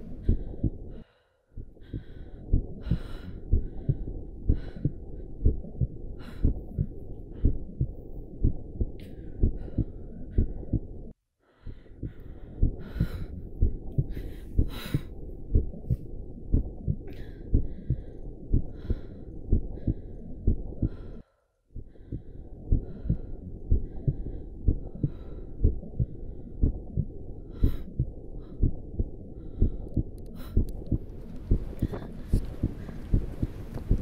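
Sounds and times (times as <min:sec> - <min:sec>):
heartbeat thuds: 0:00.0 - 0:01.0, 0:01.6 - 0:21.1, 0:21.8 - 0:34.0.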